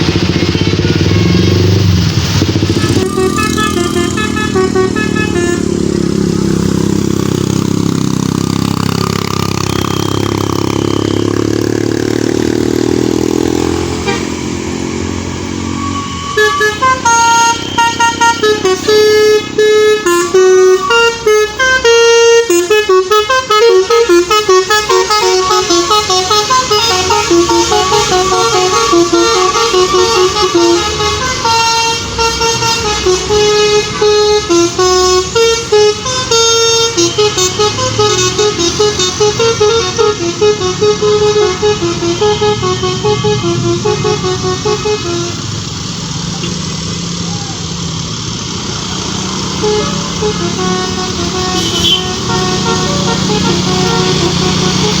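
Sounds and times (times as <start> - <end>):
bus multi-tone horn melody: 0.0 - 46.8, 48.6 - 55.0
engine running: 0.0 - 55.0.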